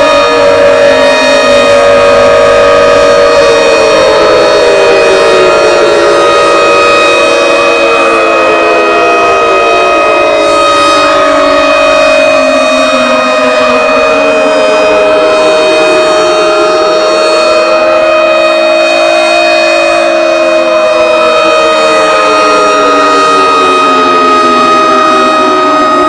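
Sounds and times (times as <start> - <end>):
sirens wailing: 0.0 - 26.0
steady siren tone: 0.0 - 26.0.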